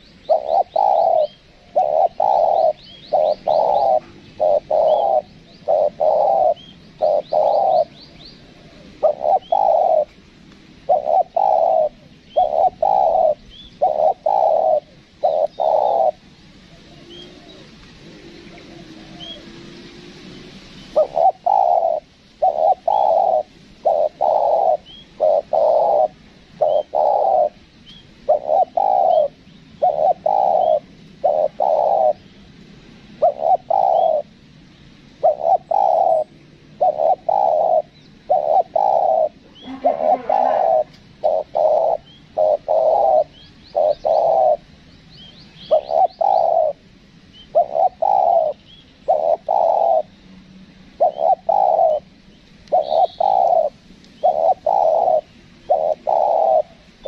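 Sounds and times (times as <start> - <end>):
dove cooing: 0.0 - 10.2, 10.8 - 32.3, 33.2 - 34.4, 35.1 - 50.2, 50.9 - 57.0
small birds chirping: 0.0 - 57.0.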